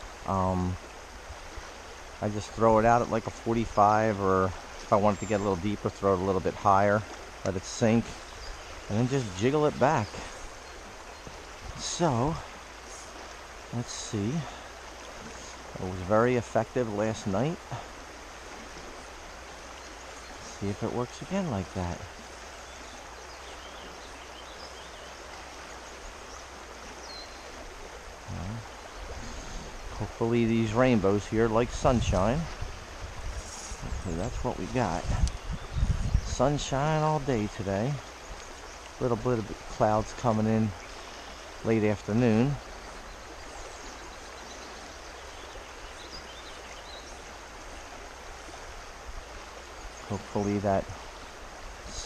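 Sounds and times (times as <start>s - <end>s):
creek rushing: 0.0s - 52.0s.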